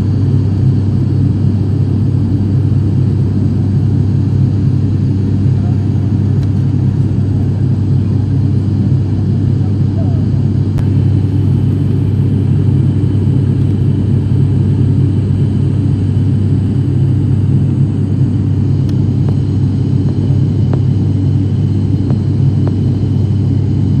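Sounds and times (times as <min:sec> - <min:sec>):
turboprop engines droning in cabin: 0:00.0 - 0:24.0.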